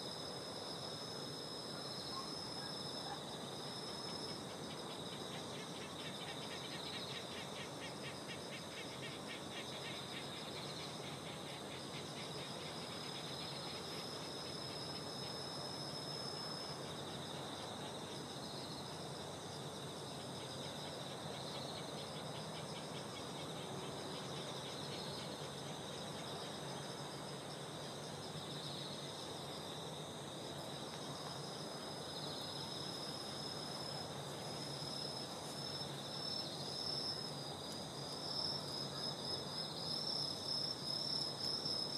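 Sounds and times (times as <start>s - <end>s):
crickets and insects chirping: 0.0s - 41.9s
high insect trill: 0.0s - 41.9s.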